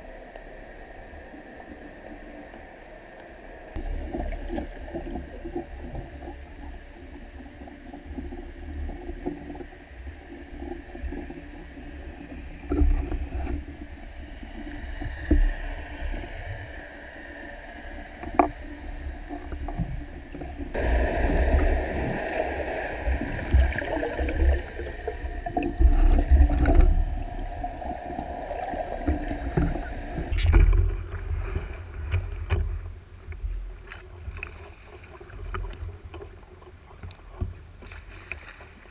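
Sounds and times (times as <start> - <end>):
underwater ship engine drone: 0.0 - 37.5
water rush against camera: 0.0 - 38.9
water splashing: 1.6 - 32.8.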